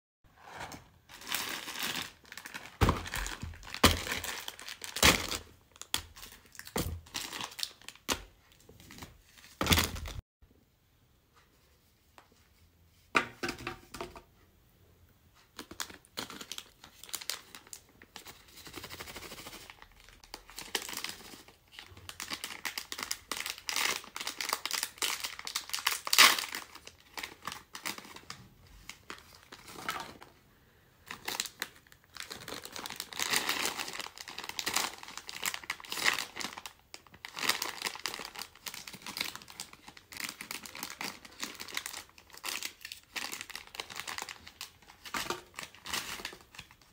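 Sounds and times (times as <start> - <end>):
plastic wrappers crinkling: 1.1 - 10.2, 15.6 - 30.3, 31.1 - 46.9.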